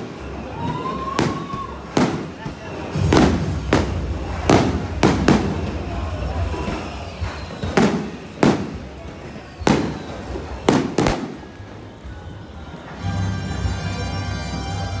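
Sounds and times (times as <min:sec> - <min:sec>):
fireworks bursting: 0:00.0 - 0:13.6.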